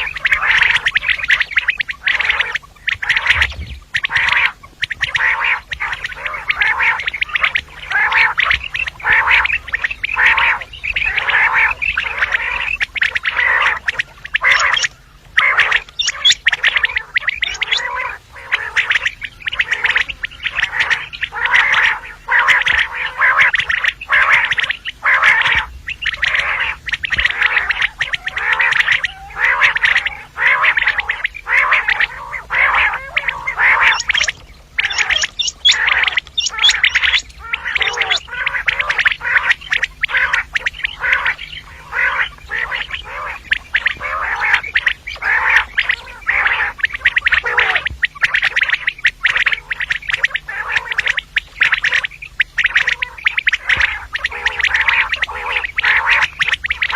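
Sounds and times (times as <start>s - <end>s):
quail calling: 0.0s - 56.9s.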